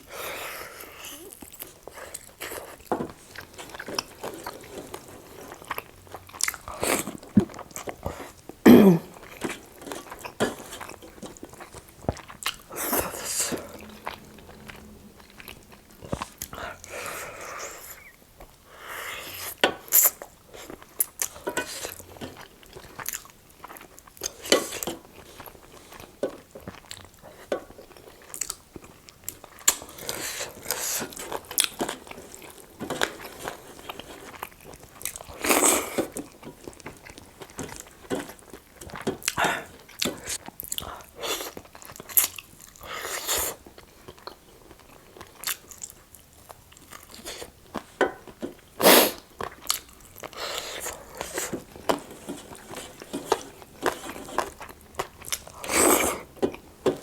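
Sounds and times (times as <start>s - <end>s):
person crunching and chewing food: 0.1s - 57.0s.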